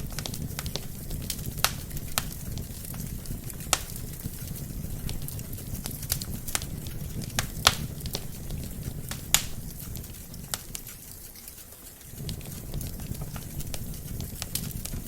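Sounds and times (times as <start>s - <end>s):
low rumble of flame: 0.0s - 15.0s
wood fire crackling and popping: 0.0s - 15.0s.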